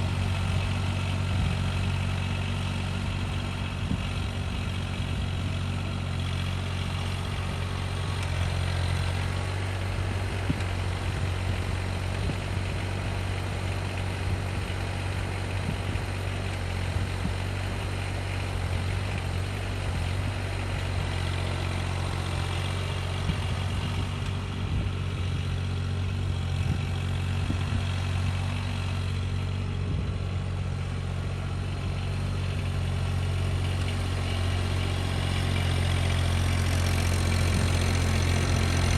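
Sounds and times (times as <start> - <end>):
engine running with low hum: 0.0 - 38.9.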